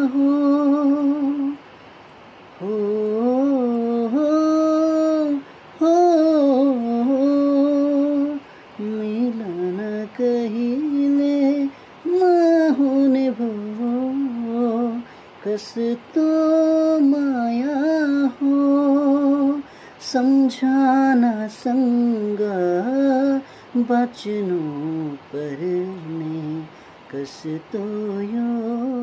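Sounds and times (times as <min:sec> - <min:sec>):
man singing wordless melody: 0:00.0 - 0:29.0.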